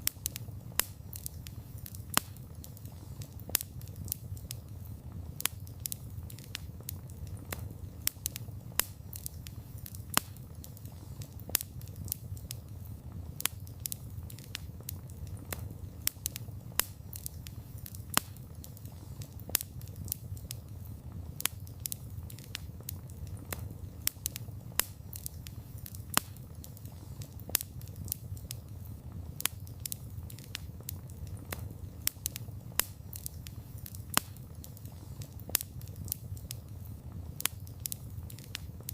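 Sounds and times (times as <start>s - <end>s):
burning wood crackling and popping: 0.0s - 38.9s
wood fire rumbling: 0.0s - 38.9s.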